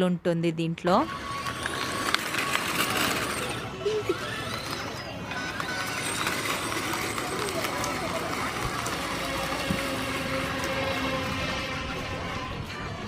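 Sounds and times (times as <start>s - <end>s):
background hubbub: 0.0s - 13.0s.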